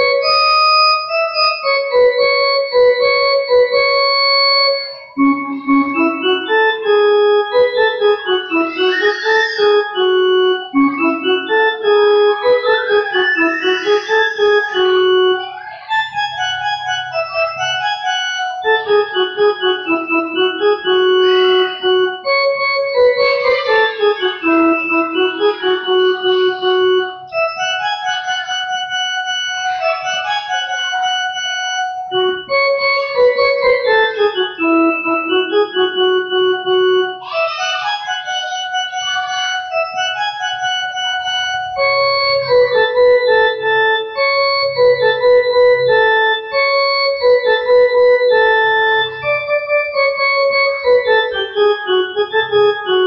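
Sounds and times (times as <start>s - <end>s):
electronic keyboard melody: 0.0s - 53.0s.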